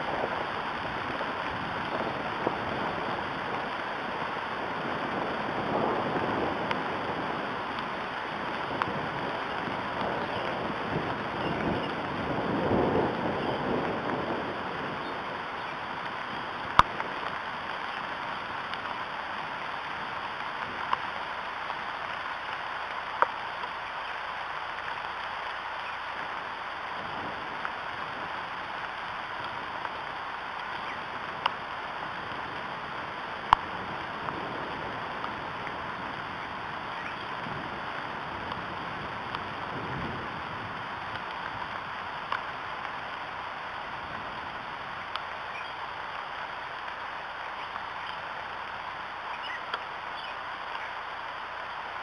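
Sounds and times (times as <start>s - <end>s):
rain on leaves: 0.0s - 52.0s.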